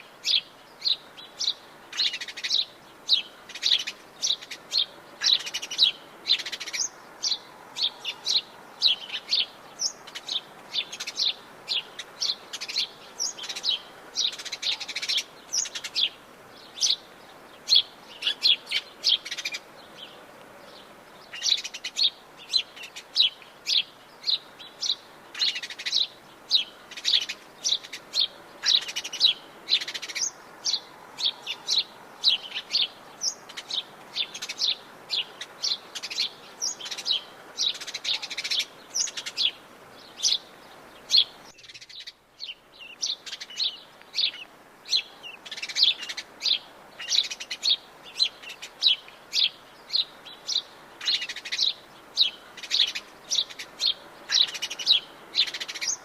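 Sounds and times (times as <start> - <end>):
birds chirping and calling: 0.0 - 56.0
steady background hiss: 0.0 - 56.0.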